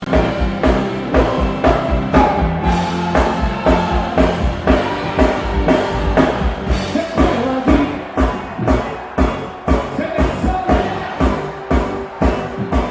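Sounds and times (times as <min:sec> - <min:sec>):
live rock band playing: 0:00.0 - 0:12.9
kick drum beat: 0:00.2 - 0:12.9.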